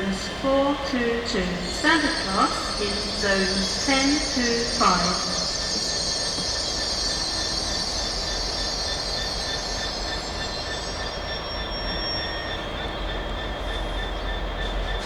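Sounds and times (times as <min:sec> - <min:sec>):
train rumbling on rails: 0:00.0 - 0:15.0
high wheel squeal: 0:01.6 - 0:15.0.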